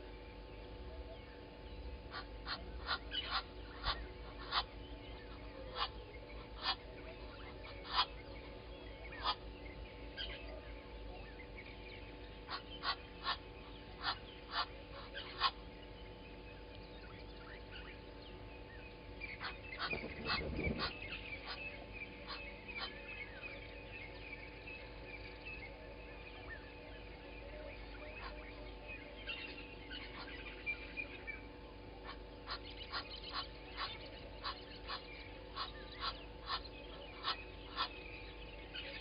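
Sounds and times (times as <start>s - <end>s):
faint steady hum: 0.0s - 39.0s
small birds chattering: 0.0s - 39.0s
birds calling sharply: 0.9s - 39.0s.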